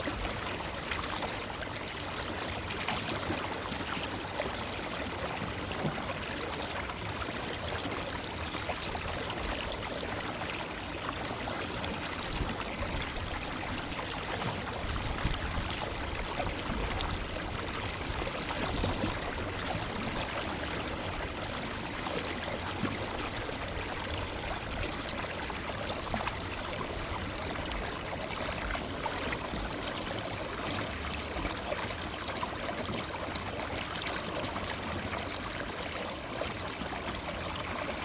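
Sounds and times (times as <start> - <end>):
river water rushing and babbling: 0.0 - 38.0.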